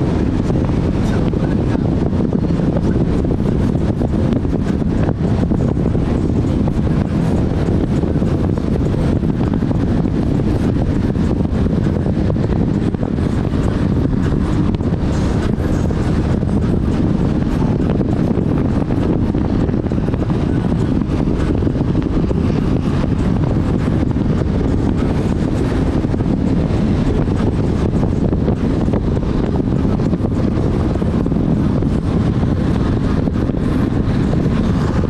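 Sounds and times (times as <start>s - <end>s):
powerboat engine drone: 0.0s - 35.0s
wind on microphone: 0.0s - 35.0s.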